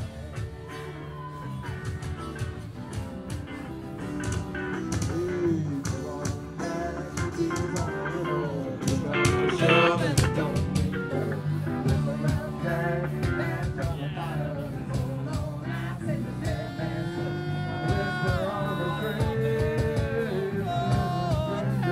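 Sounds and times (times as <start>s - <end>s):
blues-rock band playing: 0.0s - 21.9s.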